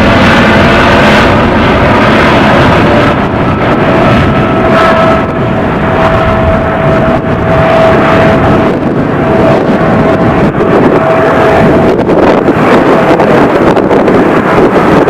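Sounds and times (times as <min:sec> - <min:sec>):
high engine whine: 0:00.0 - 0:15.0
jet engines roaring: 0:00.0 - 0:15.0
wind buffeting microphone: 0:00.0 - 0:15.0.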